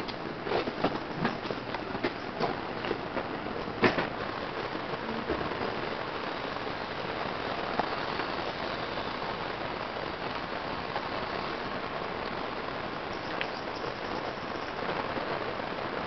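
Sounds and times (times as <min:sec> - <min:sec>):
hiss of falling water: 0:00.0 - 0:16.0.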